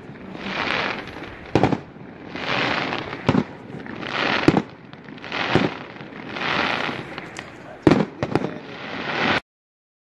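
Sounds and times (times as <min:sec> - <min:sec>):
firework bangs: 0:00.0 - 0:09.4
firework hissing rush: 0:00.0 - 0:09.4.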